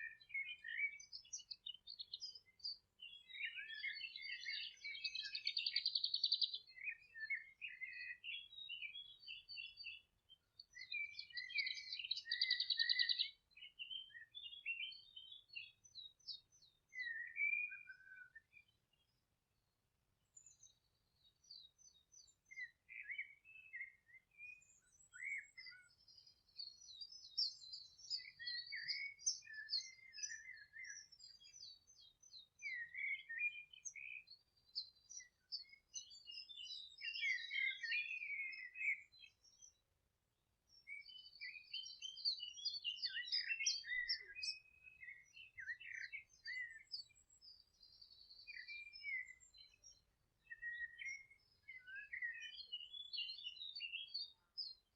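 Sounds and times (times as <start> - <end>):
songbirds chorus: 0.0 - 54.9.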